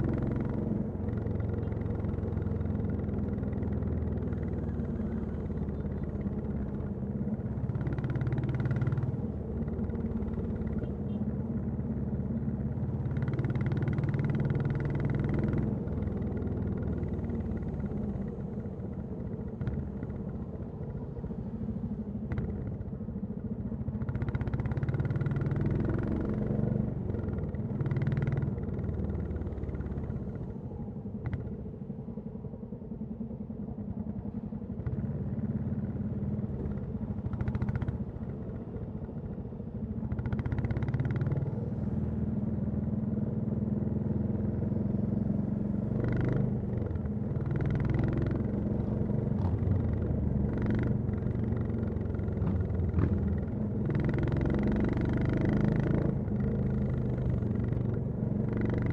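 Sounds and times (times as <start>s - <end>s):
motorcycle engine and exhaust: 0.0s - 58.9s.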